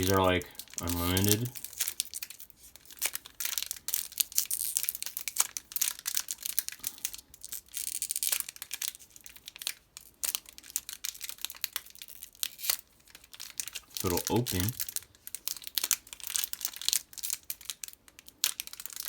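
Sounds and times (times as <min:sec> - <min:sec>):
foil wrapper crinkling and tearing: 0:00.0 - 0:19.0.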